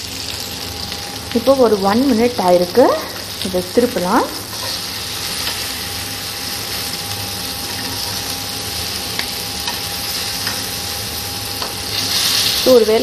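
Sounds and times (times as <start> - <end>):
chicken sizzling on grill pan: 0.0 - 13.0.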